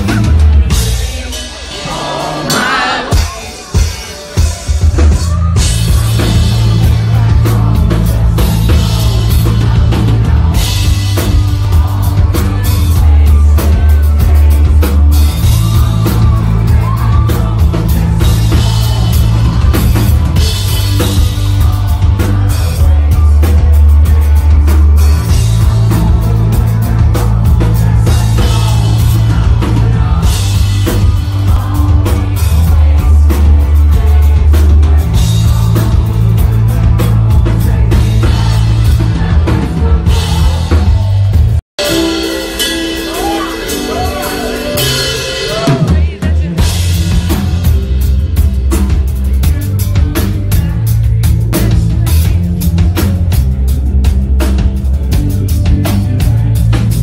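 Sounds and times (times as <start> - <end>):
heavy low bass notes: 0.0 - 57.0
loud live rock band: 0.0 - 57.0.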